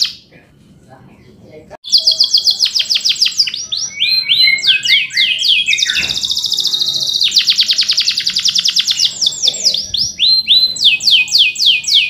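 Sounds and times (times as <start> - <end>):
canary singing: 0.0 - 0.4, 1.1 - 12.0.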